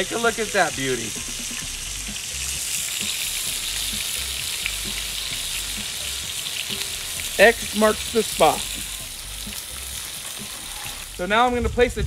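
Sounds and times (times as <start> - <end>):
burger patties sizzling: 0.0 - 11.5.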